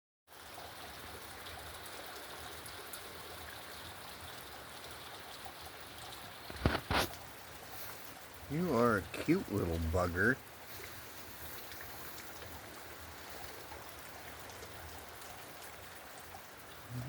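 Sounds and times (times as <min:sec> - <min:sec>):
running water: 0:00.3 - 0:17.0.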